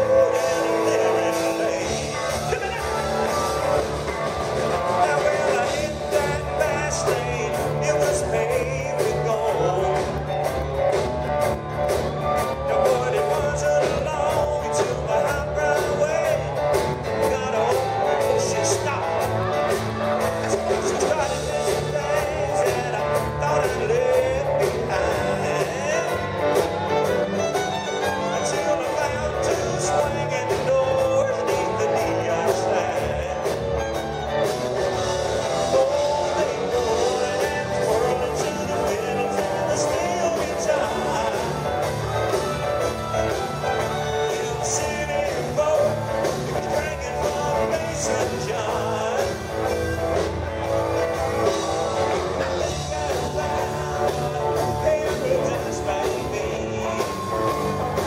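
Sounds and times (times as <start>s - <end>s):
man singing: 0.0s - 11.4s, 12.1s - 58.0s
drums: 0.0s - 58.0s
electric guitars: 0.0s - 58.0s
live country band: 0.0s - 58.0s.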